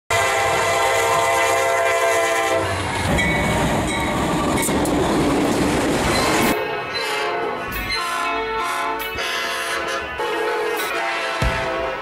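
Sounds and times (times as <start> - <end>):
locomotive air horn: 0.1 - 4.4, 6.2 - 12.0
freight train rolling past: 0.1 - 12.0.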